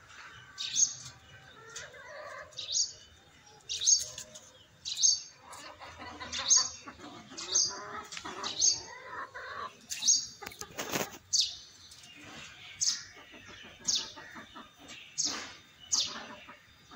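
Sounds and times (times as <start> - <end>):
small bird chirping: 0.1 - 16.9.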